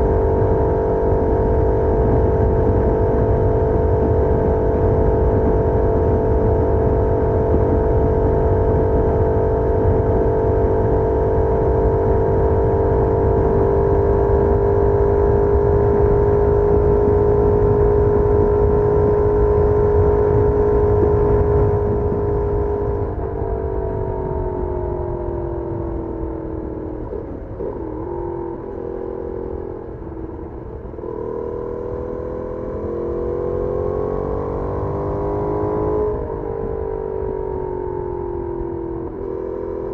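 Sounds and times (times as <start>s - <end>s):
wind on microphone: 0.0s - 39.2s
motorcycle engine revving: 0.0s - 39.9s.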